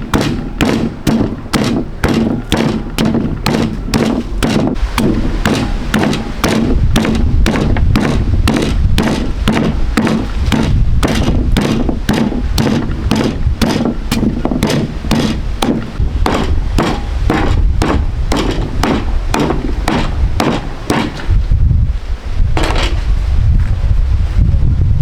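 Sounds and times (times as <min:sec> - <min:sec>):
sharp chopping strikes: 0:00.0 - 0:21.4
steady low rumble: 0:00.0 - 0:25.0.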